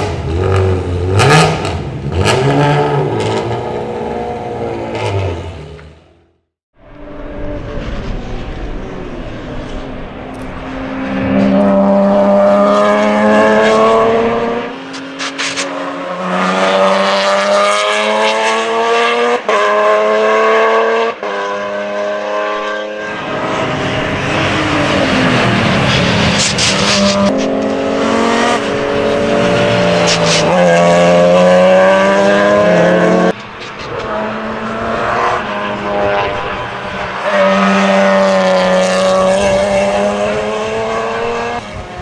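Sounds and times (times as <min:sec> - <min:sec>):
race car engine at high revs: 0:00.0 - 0:06.0, 0:07.8 - 0:42.0.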